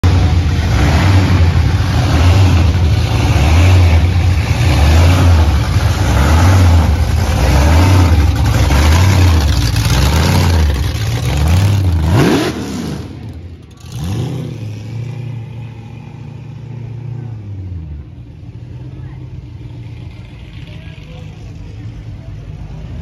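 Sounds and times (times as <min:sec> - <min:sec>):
car engine idling with deep rumble: 0:00.0 - 0:23.0.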